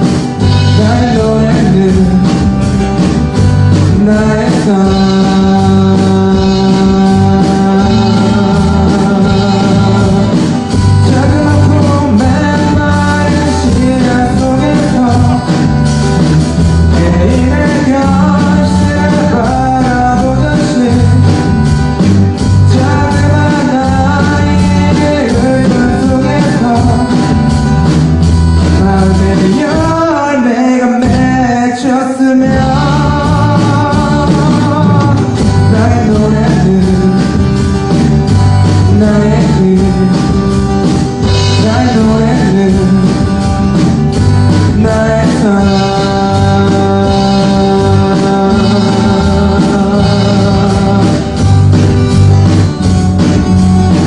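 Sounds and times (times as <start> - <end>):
person singing: 0.0 - 54.0
rock band playing live: 0.0 - 54.0.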